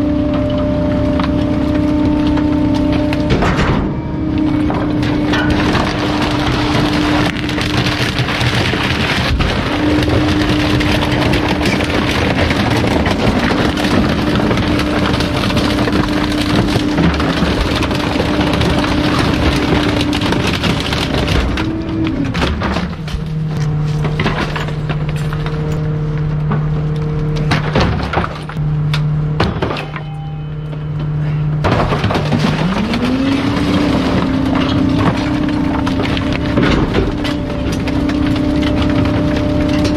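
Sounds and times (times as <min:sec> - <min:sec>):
truck engine revving: 0:00.0 - 0:27.8, 0:31.4 - 0:39.9
debris crunching and cracking: 0:00.0 - 0:39.9.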